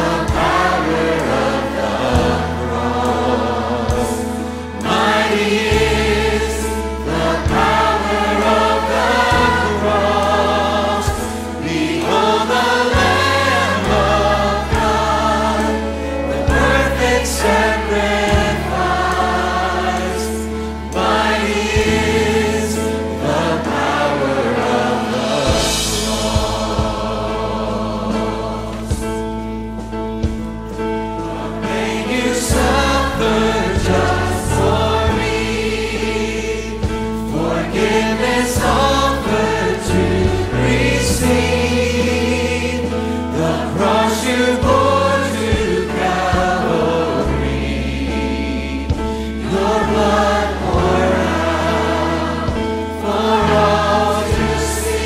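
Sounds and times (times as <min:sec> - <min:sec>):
choirs singing a hymn: 0:00.0 - 0:55.0.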